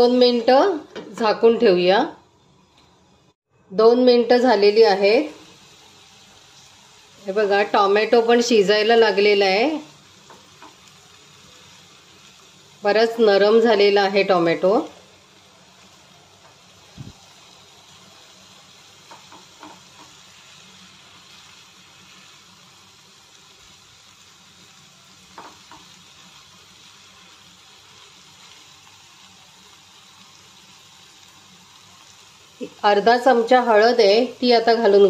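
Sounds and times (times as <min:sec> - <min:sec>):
vegetables sizzling in a pan: 0:00.0 - 0:35.0.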